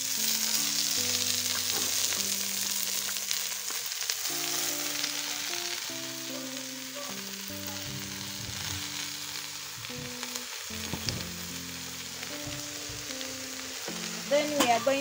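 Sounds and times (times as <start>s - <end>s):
oil and onions sizzling in a pot: 0.0s - 15.0s
soft background music: 0.0s - 15.0s.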